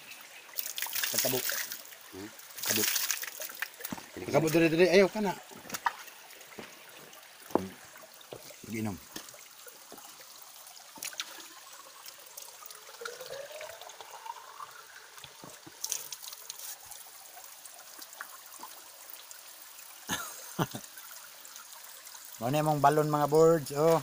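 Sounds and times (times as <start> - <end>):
water trickling into bamboo tube: 0.0 - 24.0.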